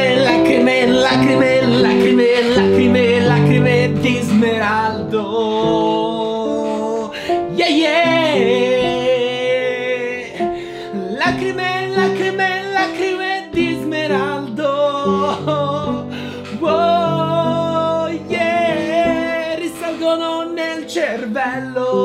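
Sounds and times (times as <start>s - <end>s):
guitar accompaniment: 0.0s - 22.0s
person singing: 0.0s - 22.0s.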